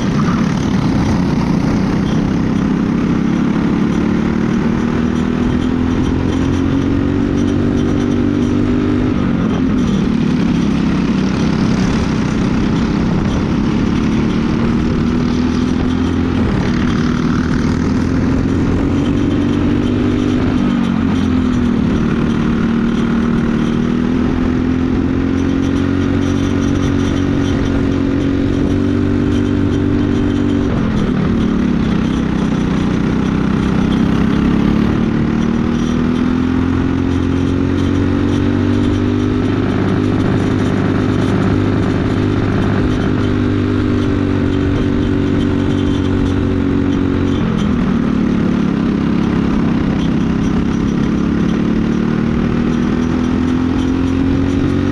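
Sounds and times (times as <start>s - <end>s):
kart engine racing: 0.0s - 54.9s.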